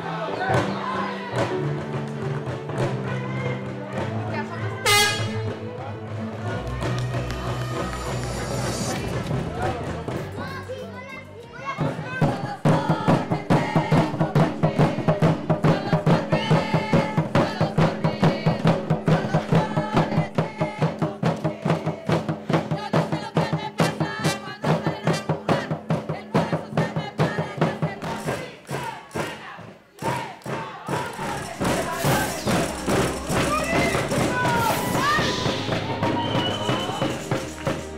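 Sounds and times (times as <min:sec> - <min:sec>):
music with fast steady beat: 0:00.6 - 0:11.1, 0:11.8 - 0:37.9.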